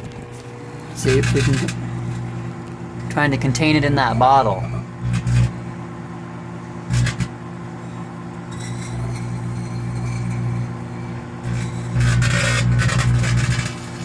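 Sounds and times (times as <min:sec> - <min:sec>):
plasma buzzing and crackling: 0:00.0 - 0:05.9, 0:06.7 - 0:14.0
microwave oven humming: 0:00.0 - 0:14.0.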